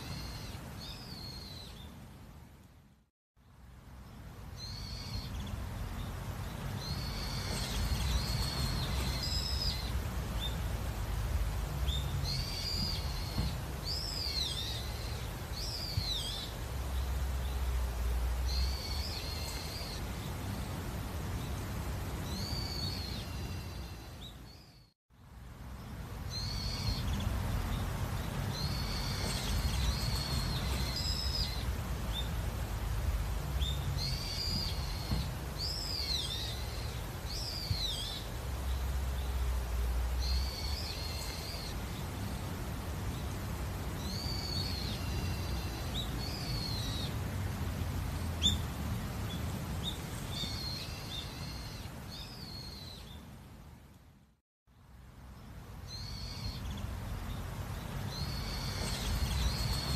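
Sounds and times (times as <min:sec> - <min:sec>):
songbirds chirping and warbling: 0:00.0 - 0:59.9.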